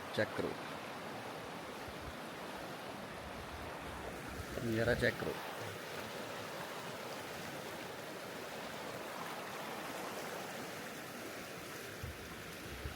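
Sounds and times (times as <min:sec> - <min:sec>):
water rushing: 0:00.0 - 0:12.9.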